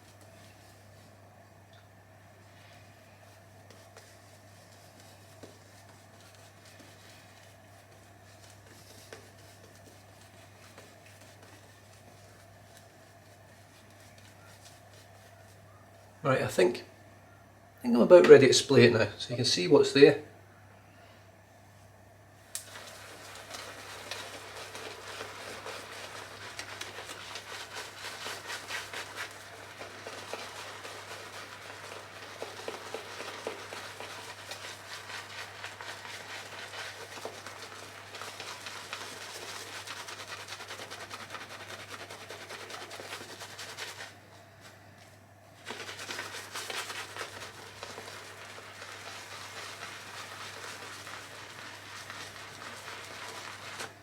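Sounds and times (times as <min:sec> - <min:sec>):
shaving brush swishing lather: 0:00.0 - 0:01.2, 0:02.4 - 0:15.6, 0:22.6 - 0:44.8, 0:45.6 - 0:54.0.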